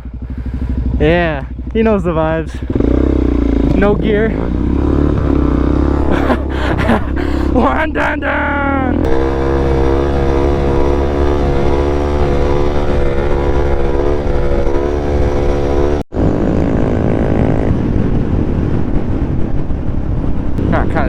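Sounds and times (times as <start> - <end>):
motorcycle engine running: 0.0 - 21.0
rough noise: 1.0 - 19.5.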